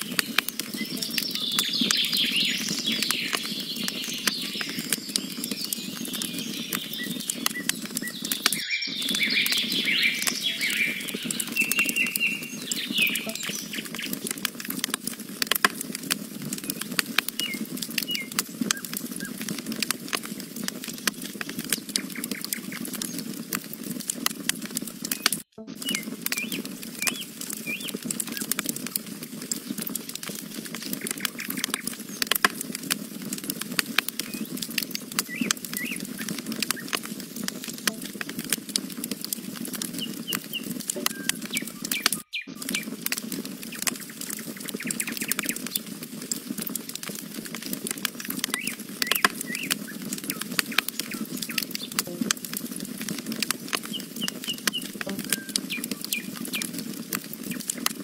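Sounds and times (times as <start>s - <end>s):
small birds chirping: 0.0s - 14.5s, 15.2s - 23.6s, 24.7s - 38.6s, 39.4s - 46.6s, 48.4s - 57.8s
campfire crackling and popping: 0.0s - 58.0s.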